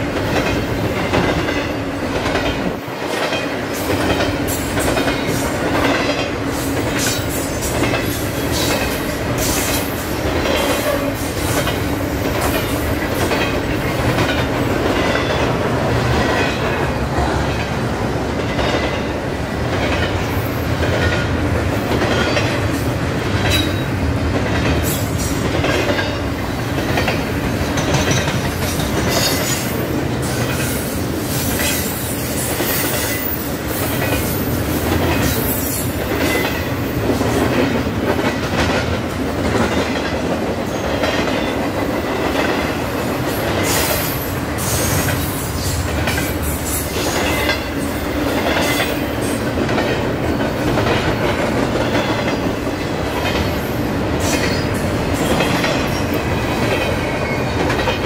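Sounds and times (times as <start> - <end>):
train wheels clacking over rail joints: 0.0 - 16.9, 18.4 - 58.0.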